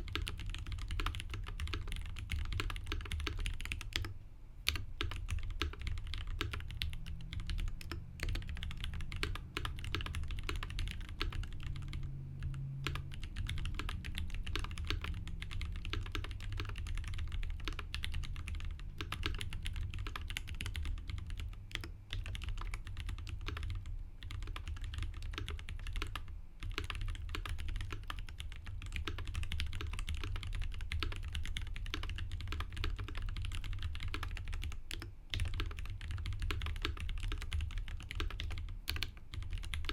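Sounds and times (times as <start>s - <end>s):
typing on mechanical keyboard: 0.0s - 4.1s, 4.7s - 39.9s.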